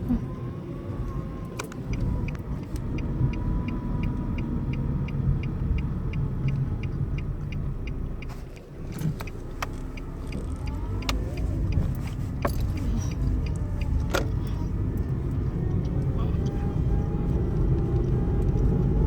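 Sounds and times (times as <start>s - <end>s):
road and engine rumble: 0.0s - 19.0s
light ticking: 1.0s - 19.0s.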